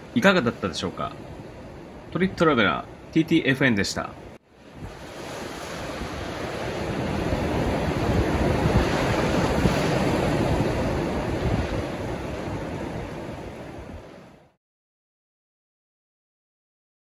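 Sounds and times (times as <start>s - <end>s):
surf waves breaking on beach: 0.0s - 14.6s.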